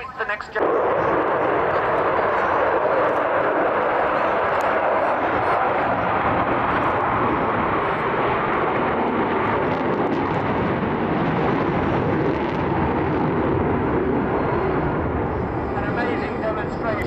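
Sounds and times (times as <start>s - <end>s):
loud jet roar: 0.0s - 17.0s.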